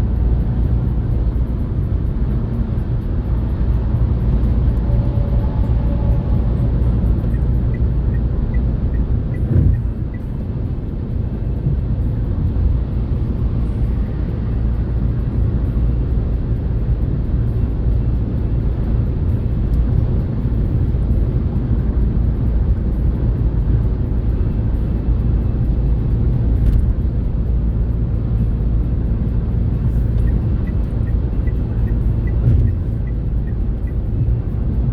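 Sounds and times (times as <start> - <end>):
car road and engine rumble: 0.0 - 34.9.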